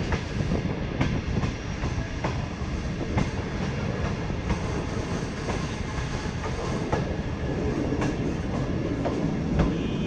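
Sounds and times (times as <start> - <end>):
train rumbling on track: 0.0 - 10.0.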